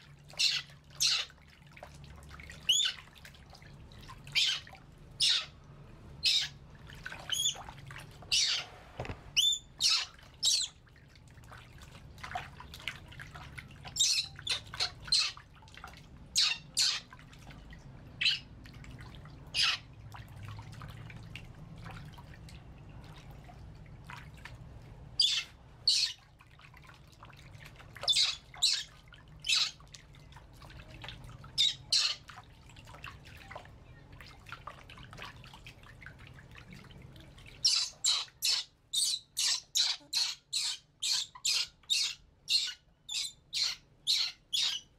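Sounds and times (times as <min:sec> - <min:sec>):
water splashing in a plastic basin: 0:00.0 - 0:39.0.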